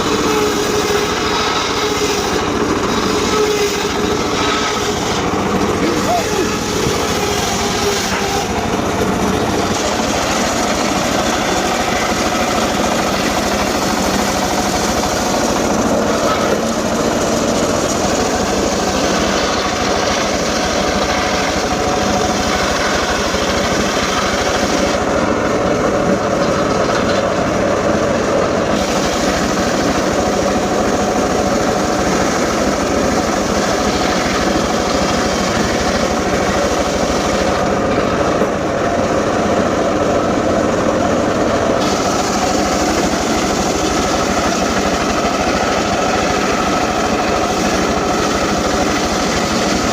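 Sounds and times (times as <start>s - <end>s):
engine-powered saw running: 0.0s - 49.9s.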